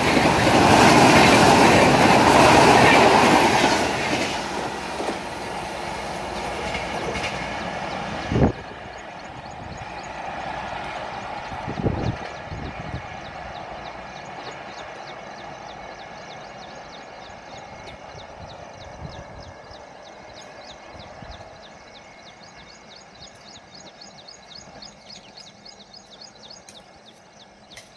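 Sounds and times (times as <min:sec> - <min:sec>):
train rolling rumble: 0:00.0 - 0:27.9.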